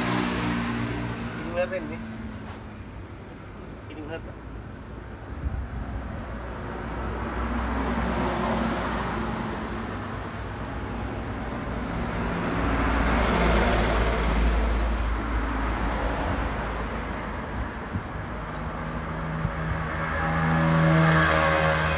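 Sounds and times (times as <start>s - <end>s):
vehicles passing: 0.0s - 21.9s.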